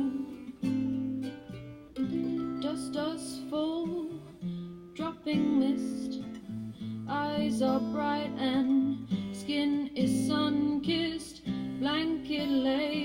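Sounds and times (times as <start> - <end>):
person singing: 0.0 - 0.8, 1.9 - 13.0
acoustic guitar playing chords: 0.0 - 13.0.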